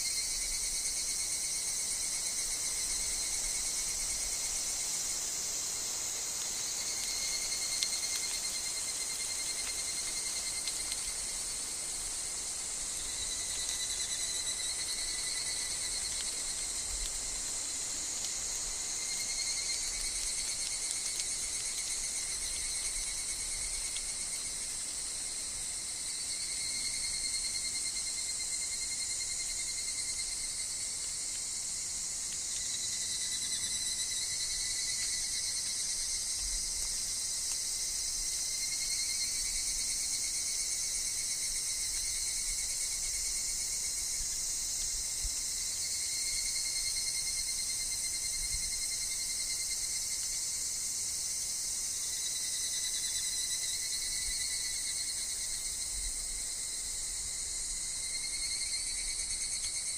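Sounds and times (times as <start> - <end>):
cicadas and insects trilling: 0.0 - 59.9.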